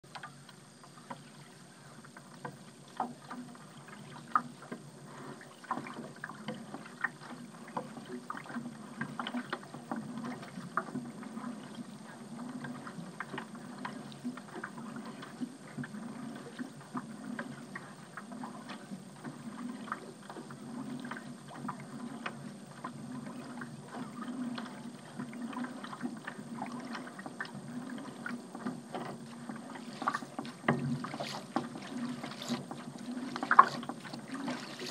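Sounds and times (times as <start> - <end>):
paddle splashing: 0.0 - 34.9
low wash of moving water: 1.2 - 34.9.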